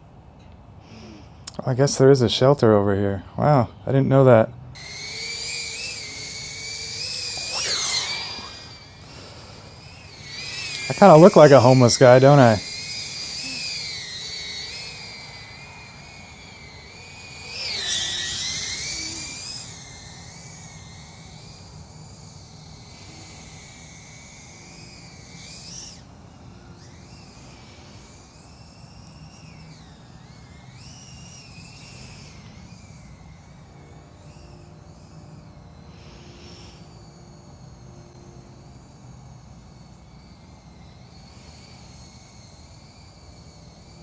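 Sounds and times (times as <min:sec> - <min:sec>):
drone propellers whining: 0:04.7 - 0:44.0.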